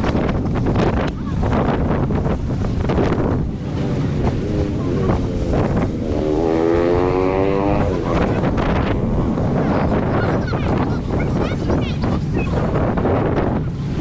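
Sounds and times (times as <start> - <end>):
low rumble of sea: 0.0 - 14.0
wind buffeting microphone: 0.0 - 14.0.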